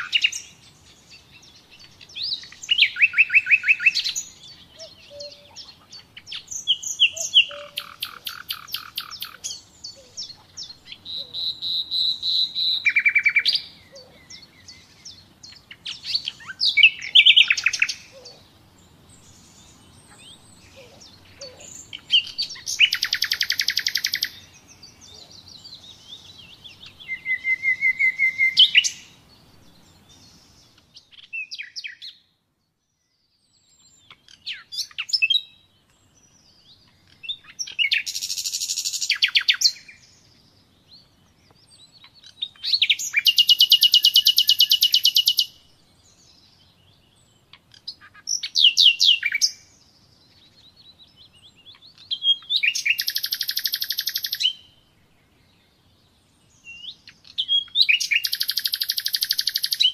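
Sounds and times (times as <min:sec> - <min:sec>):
nightingale singing: 0:00.0 - 0:59.9.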